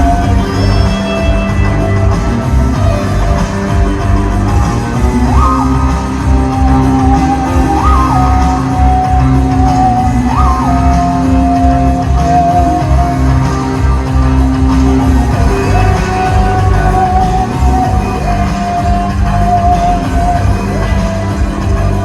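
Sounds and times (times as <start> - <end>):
heavy bass music: 0.0 - 22.0.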